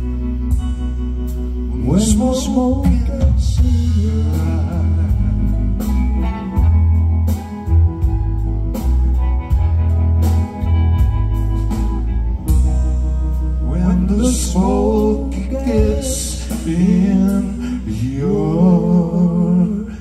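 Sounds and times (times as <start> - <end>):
strummed guitars: 0.0 - 18.7
lead guitar melody with slide: 0.0 - 19.4
heavy bass line: 0.0 - 20.0.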